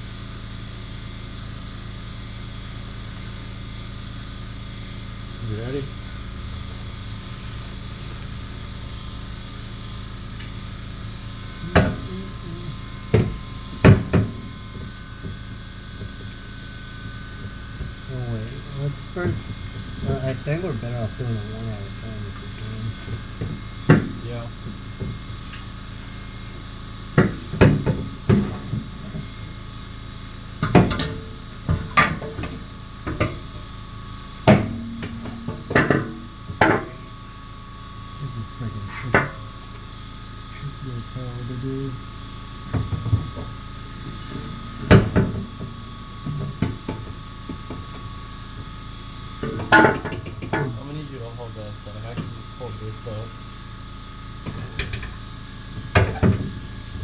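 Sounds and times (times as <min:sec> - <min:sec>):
low machine hum: 0:00.0 - 0:57.0
exhaust pipe knocking and clunking: 0:04.0 - 0:37.9, 0:38.5 - 0:40.6, 0:41.5 - 0:57.0.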